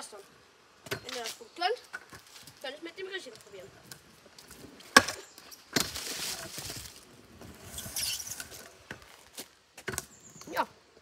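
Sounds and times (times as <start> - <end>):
scooter wheels rolling and scraping: 0.9 - 10.5.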